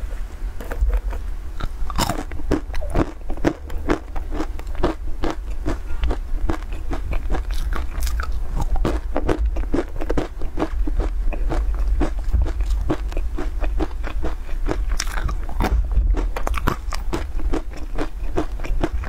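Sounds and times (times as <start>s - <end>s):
steady low hum: 0.0s - 19.0s
crunching and chewing nuts: 0.6s - 19.0s.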